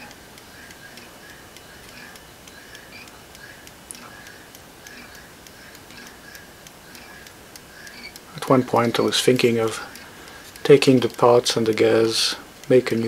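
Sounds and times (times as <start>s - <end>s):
clock movement ticking: 0.0s - 13.0s.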